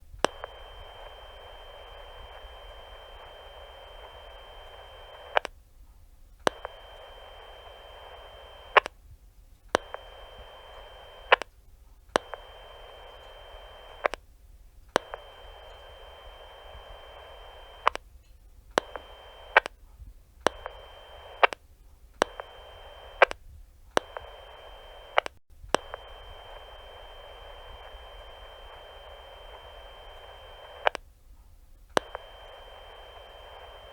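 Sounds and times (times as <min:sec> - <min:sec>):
walkie-talkie static hiss: 0:00.0 - 0:31.1, 0:31.8 - 0:33.9
talk button clicks: 0:00.2 - 0:05.6, 0:06.4 - 0:09.0, 0:09.7 - 0:11.5, 0:12.2 - 0:14.2, 0:15.0 - 0:18.0, 0:18.8 - 0:19.7, 0:20.4 - 0:21.6, 0:22.2 - 0:23.4, 0:24.0 - 0:31.0, 0:32.0 - 0:33.9.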